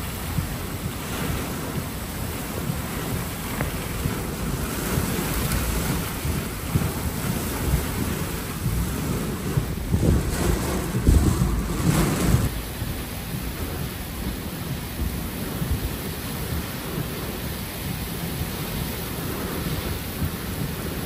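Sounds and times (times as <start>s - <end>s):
strong wind gusts buffeting microphone: 0.0s - 21.0s.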